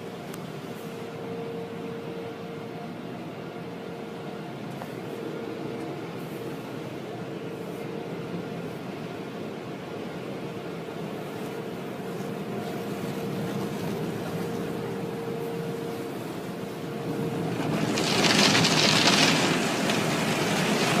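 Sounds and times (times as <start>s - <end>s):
car wash machinery humming: 0.0s - 21.0s.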